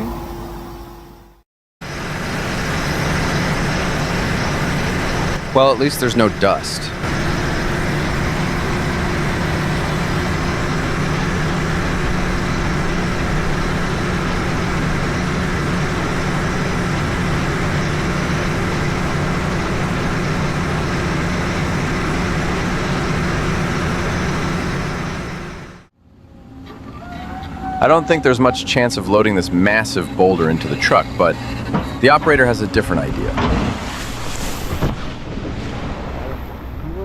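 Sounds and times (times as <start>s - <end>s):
heavy machinery engine droning: 0.0s - 37.0s.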